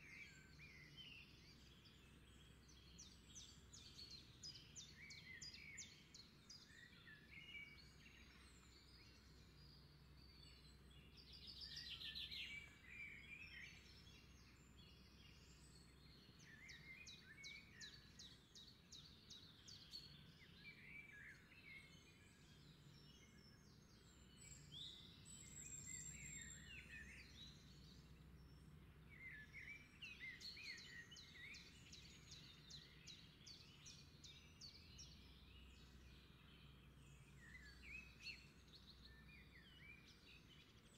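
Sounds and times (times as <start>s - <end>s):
faint birds chirping and trilling: 0.0s - 40.9s.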